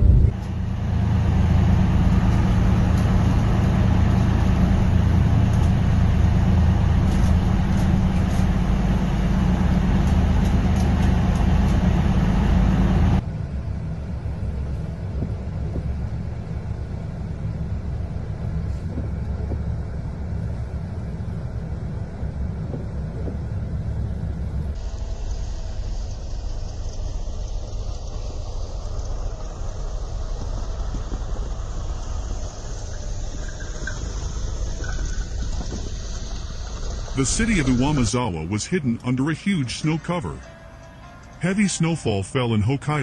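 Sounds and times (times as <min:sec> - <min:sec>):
low rumbling noise: 0:00.0 - 0:43.0.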